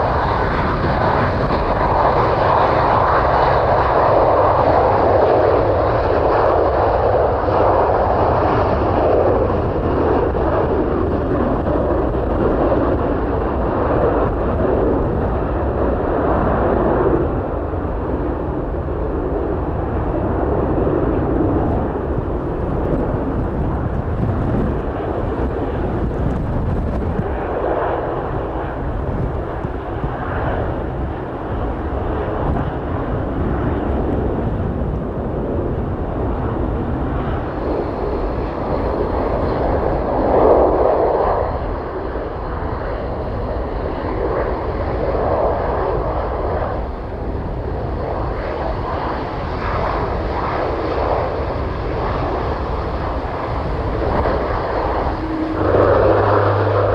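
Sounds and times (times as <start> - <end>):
aircraft engine rumble: 0.0 - 56.9.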